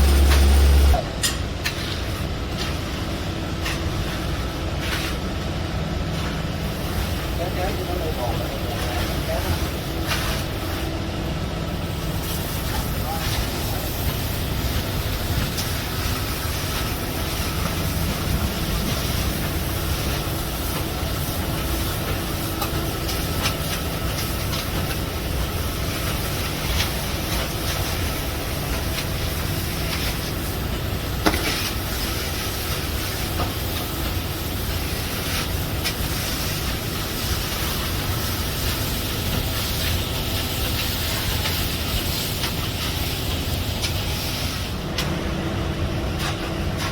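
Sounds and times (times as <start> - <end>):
machinery rumbling and hissing: 0.0 - 46.9.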